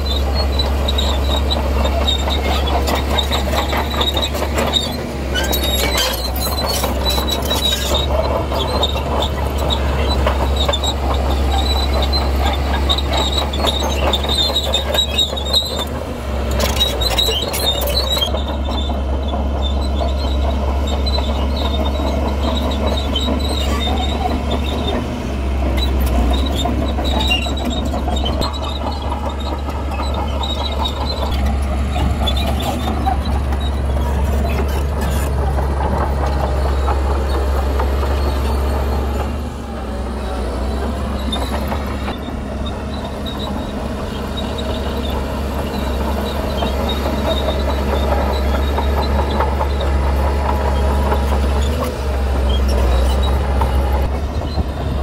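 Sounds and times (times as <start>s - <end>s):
crawler tracks squealing and clanking: 0.0s - 55.0s
diesel engine rumble: 0.0s - 55.0s.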